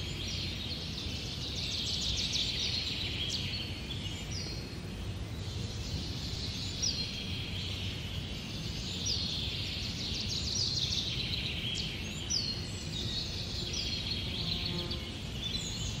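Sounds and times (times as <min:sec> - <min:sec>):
birds twittering: 0:00.0 - 0:16.0.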